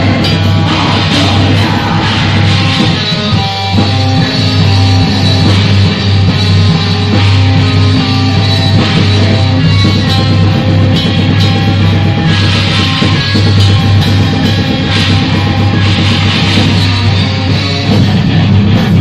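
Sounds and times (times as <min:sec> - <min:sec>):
drum kit: 0:00.0 - 0:19.0
electric guitar: 0:00.0 - 0:19.0.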